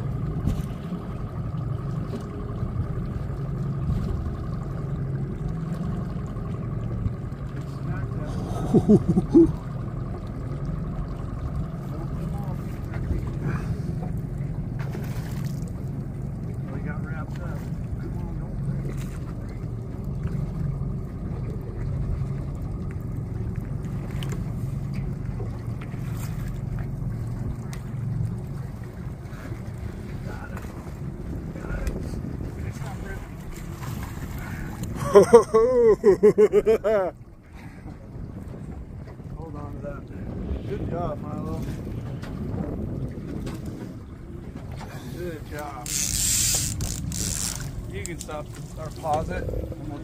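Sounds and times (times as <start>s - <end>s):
boat motor droning: 0.0s - 50.0s.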